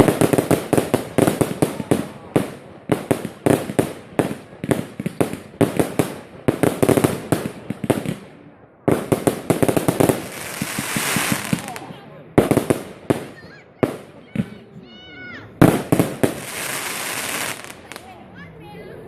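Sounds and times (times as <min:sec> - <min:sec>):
fireworks bangs: 0:00.0 - 0:14.9, 0:15.5 - 0:18.2.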